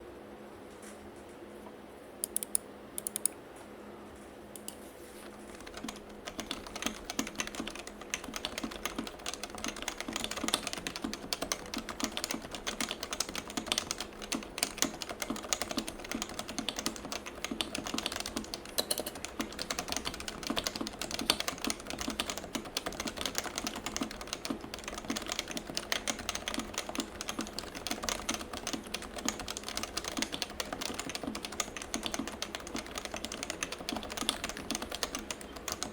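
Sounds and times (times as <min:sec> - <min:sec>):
keyboard typing: 0:02.2 - 0:03.4, 0:04.6 - 0:35.9.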